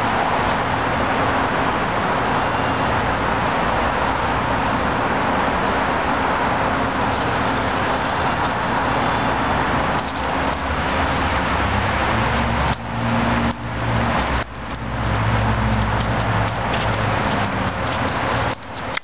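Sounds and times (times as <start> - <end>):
road traffic roar: 0.0 - 19.0.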